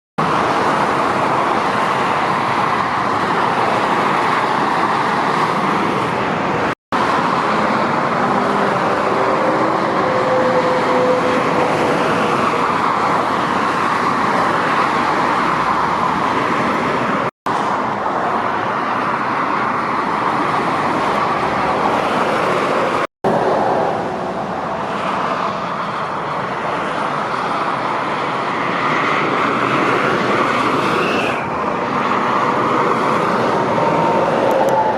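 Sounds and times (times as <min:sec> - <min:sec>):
motorway traffic rushing past: 0:00.2 - 0:34.9.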